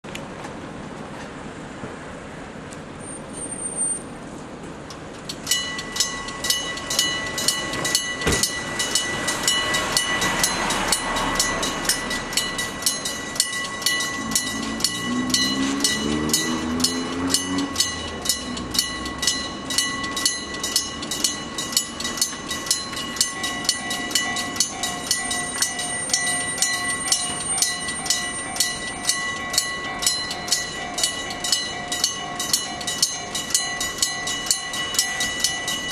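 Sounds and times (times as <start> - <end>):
level crossing bell ringing: 5.4 - 35.9
pulsing electronic crossing tone: 5.5 - 35.9.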